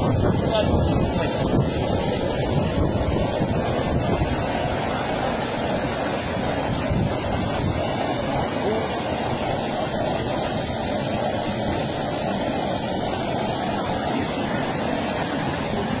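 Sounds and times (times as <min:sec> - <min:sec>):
water jet gushing: 0:00.0 - 0:16.0.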